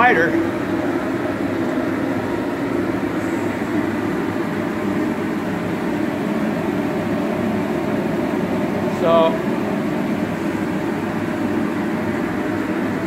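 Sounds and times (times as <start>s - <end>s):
jet heater with fan rushing: 0.0s - 13.0s.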